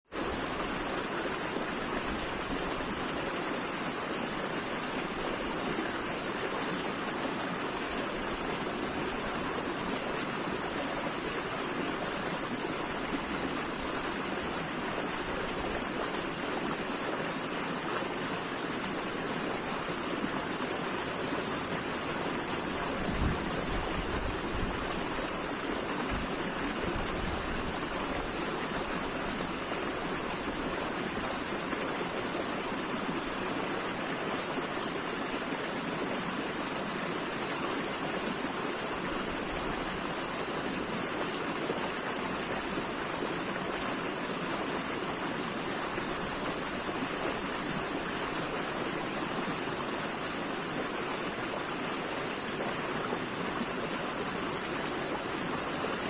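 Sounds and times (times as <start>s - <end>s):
rushing flowing water: 0.1s - 56.0s.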